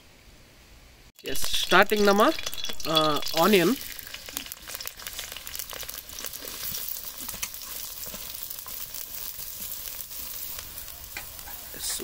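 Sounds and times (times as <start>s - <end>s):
onions sizzling in oil: 1.2s - 12.0s.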